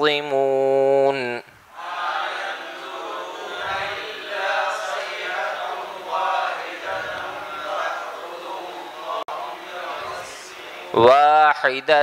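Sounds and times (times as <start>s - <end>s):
voices chanting together: 1.7s - 11.4s.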